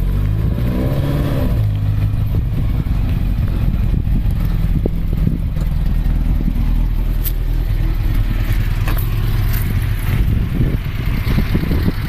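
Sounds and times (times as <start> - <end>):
engine idling: 1.7 - 12.0.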